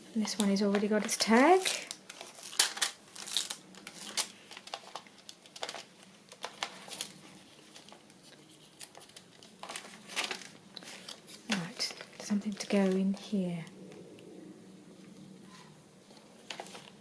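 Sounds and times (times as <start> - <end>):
paper rustling and crinkling: 0.0 - 13.2, 15.5 - 17.0.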